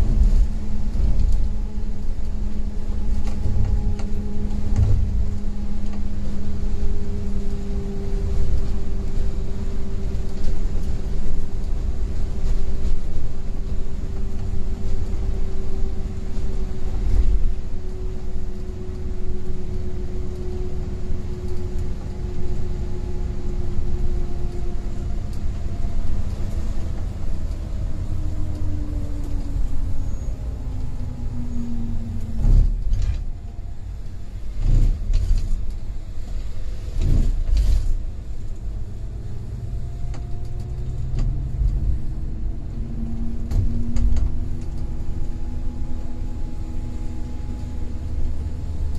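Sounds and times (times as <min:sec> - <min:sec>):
coach engine and road rumble: 0:00.0 - 0:48.9.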